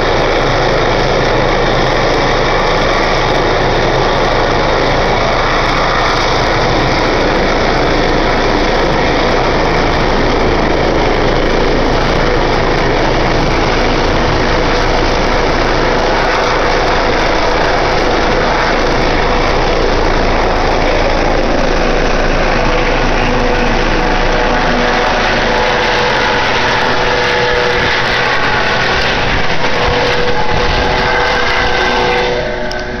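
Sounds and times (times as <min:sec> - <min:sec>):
helicopter taking off: 0:00.0 - 0:33.0
whining engine tones: 0:00.0 - 0:33.0.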